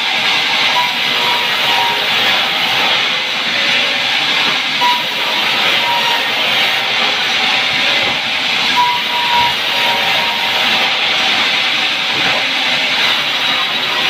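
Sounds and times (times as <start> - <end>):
band saw rasping through wood: 0.8 - 14.0.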